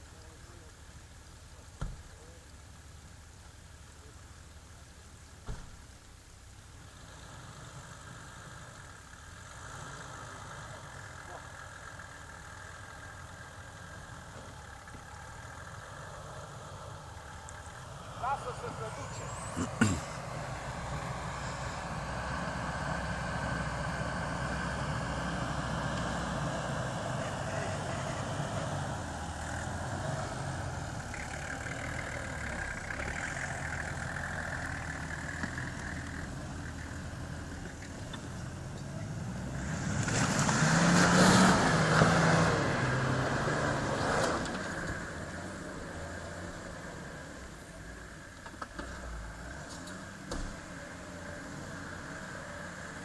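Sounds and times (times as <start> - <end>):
suv engine running: 0.0 - 53.0.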